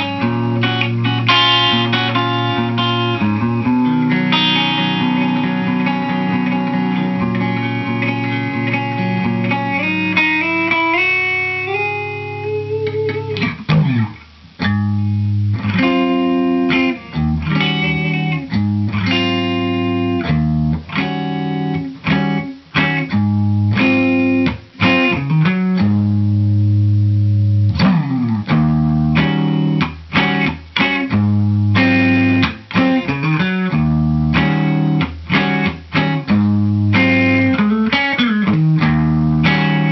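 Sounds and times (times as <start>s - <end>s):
electric guitar chords and riffs: 0.0s - 39.9s.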